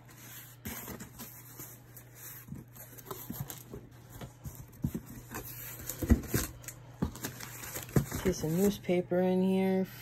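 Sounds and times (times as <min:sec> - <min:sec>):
cardboard rustling and scraping: 0:00.0 - 0:09.0.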